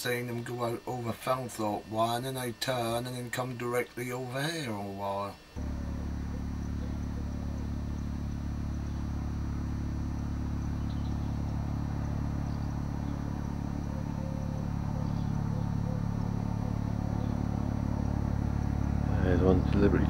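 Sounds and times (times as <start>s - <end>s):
helicopter rotor drone: 0.0s - 20.0s.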